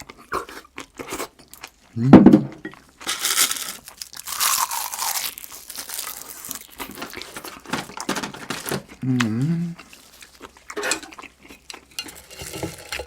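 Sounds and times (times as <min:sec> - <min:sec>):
crunching and chewing: 0:00.0 - 0:02.0, 0:02.7 - 0:13.0.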